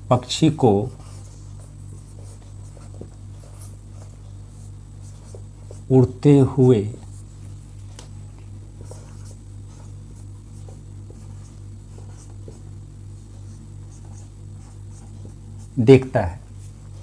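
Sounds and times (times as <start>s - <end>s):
steady low hum: 0.0s - 17.0s
marker pen scratching on whiteboard: 0.8s - 7.5s, 8.8s - 15.8s.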